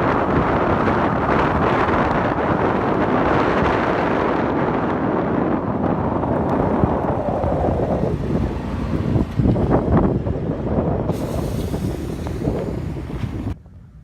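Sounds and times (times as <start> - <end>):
tyre and road noise: 0.0 - 14.0
wind: 0.0 - 14.0.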